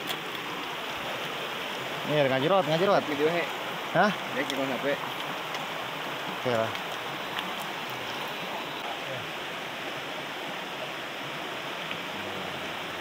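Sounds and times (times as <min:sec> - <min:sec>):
flowing river: 0:00.0 - 0:13.0.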